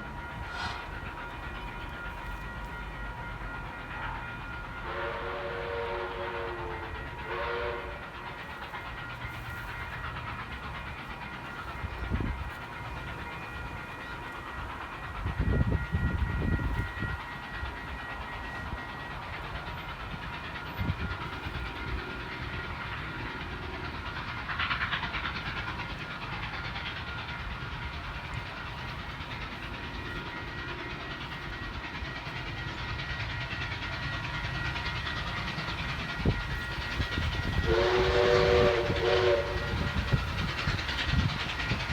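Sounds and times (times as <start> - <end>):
train rail noise: 0.0 - 41.9.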